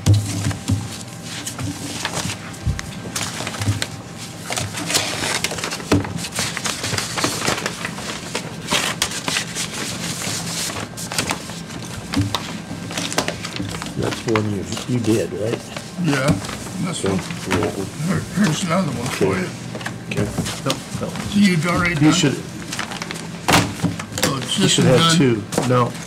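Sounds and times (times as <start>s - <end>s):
paper rustling: 0.2s - 26.0s.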